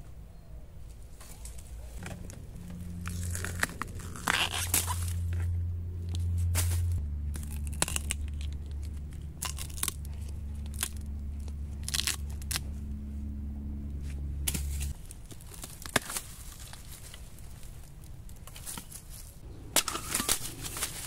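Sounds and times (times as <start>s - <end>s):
low steady hum: 0.0s - 21.0s
dry leaves crunching: 1.0s - 13.3s, 14.0s - 21.0s.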